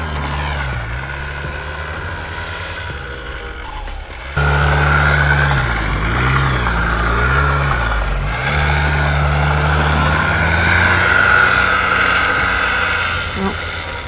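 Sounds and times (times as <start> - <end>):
rapid clicking: 0.0 - 14.0
snowmobile engine running: 0.0 - 14.0.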